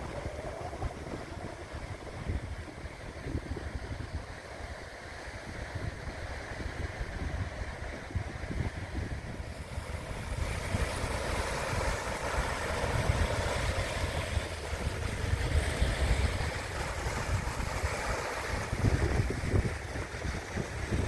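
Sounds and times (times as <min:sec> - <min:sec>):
small waves on sandy beach: 0:00.0 - 0:21.0
wind rumbling on microphone: 0:00.0 - 0:21.0.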